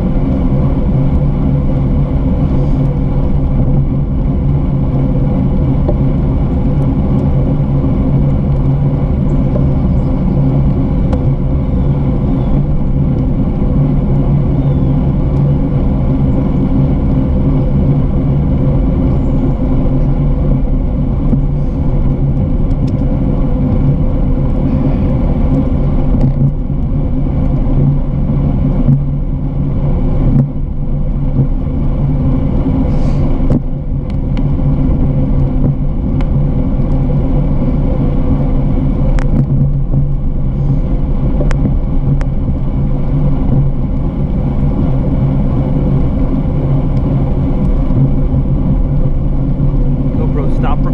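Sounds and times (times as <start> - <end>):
bicycle tyre and frame vibration: 0.0 - 50.9
low hum: 0.0 - 50.9.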